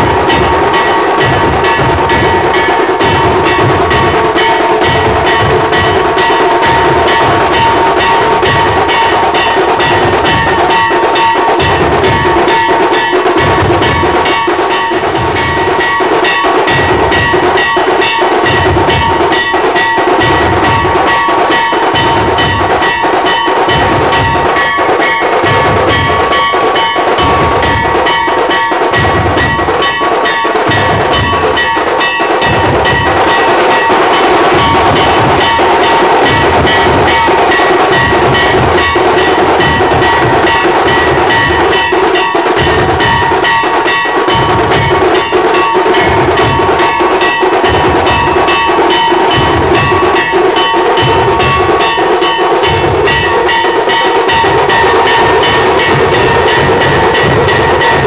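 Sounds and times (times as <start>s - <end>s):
deep drum beats: 0.0s - 58.0s
fast drum stick strokes: 0.0s - 58.0s
metallic ringing: 0.0s - 58.0s.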